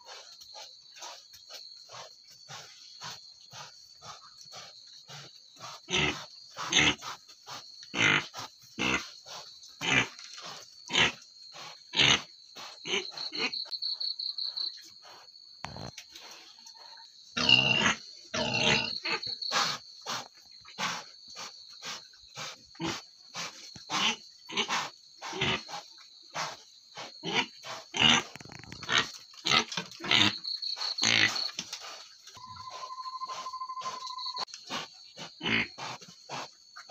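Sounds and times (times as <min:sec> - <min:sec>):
crickets chirping: 0:00.0 - 0:36.9
pig grunting: 0:02.0 - 0:13.6, 0:17.4 - 0:21.1, 0:21.8 - 0:36.9.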